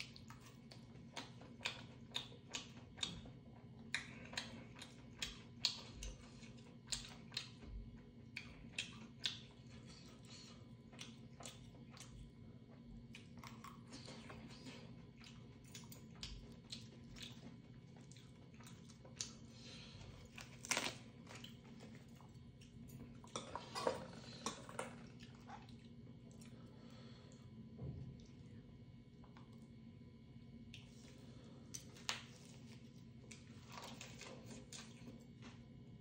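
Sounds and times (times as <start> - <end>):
chewing and biting food: 0.0 - 26.7, 30.6 - 35.8.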